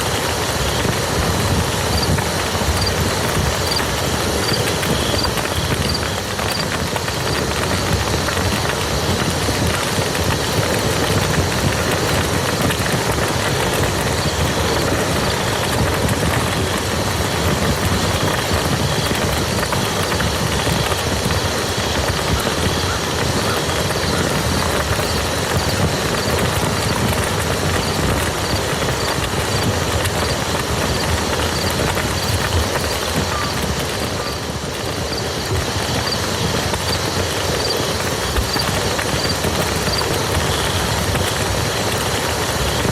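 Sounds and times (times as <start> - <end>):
rain pattering on mud: 0.0 - 42.9.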